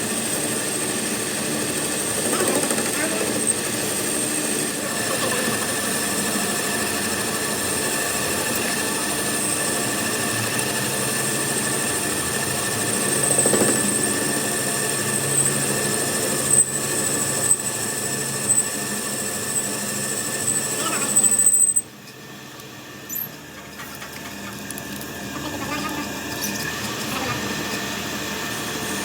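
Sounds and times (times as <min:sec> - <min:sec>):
workshop machine whining: 0:00.0 - 0:29.0.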